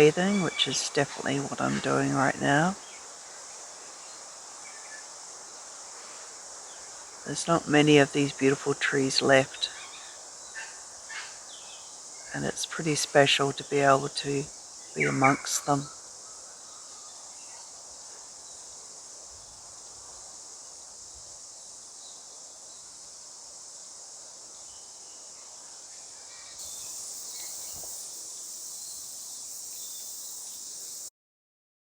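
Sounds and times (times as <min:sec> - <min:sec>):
insects chorus: 0:00.0 - 0:31.1.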